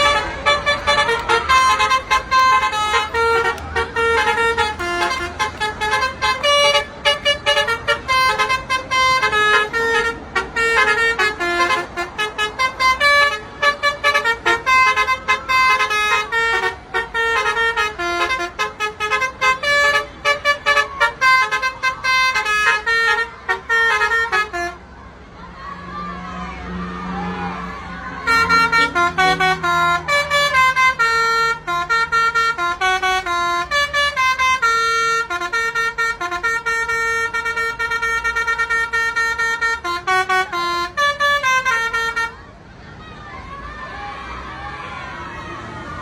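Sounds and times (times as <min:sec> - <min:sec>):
musical bus horns: 0:00.0 - 0:42.8
traffic rumble: 0:00.0 - 0:46.0.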